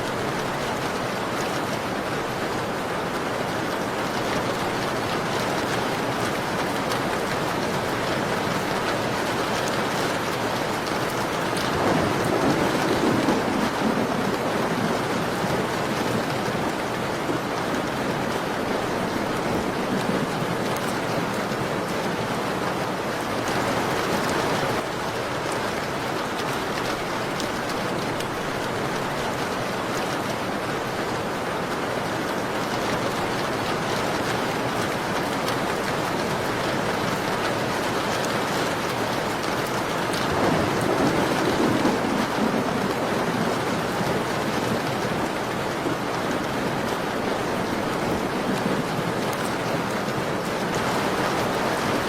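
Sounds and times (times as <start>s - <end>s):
rain falling on a window: 0.0s - 52.0s.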